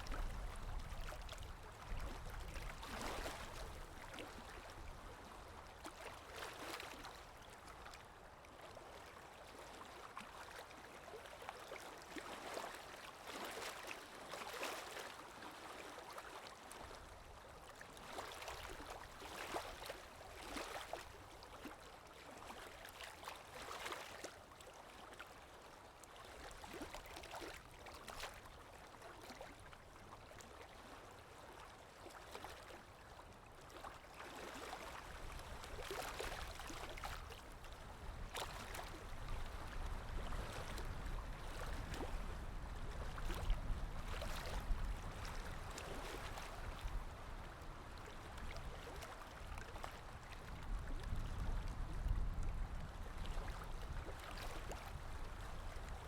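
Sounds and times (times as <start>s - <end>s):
small waves splashing on shore: 0.0s - 56.0s.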